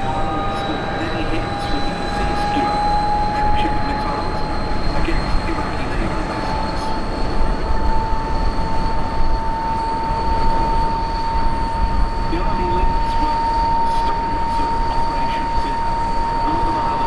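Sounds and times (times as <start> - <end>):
helicopter rotor and turbine: 0.0 - 17.0
high steady whine: 0.0 - 17.0.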